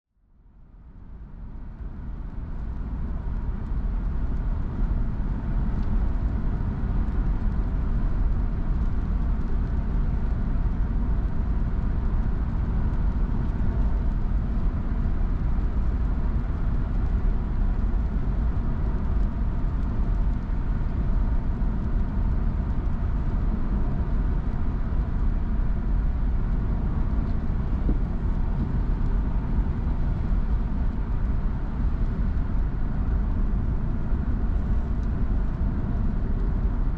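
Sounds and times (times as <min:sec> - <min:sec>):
car road and engine rumble: 0:00.7 - 0:36.9.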